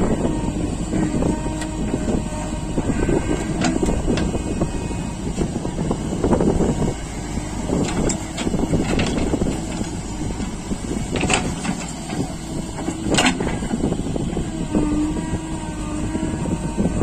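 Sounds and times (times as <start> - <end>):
tractor diesel engine rumbling: 0.0 - 17.0.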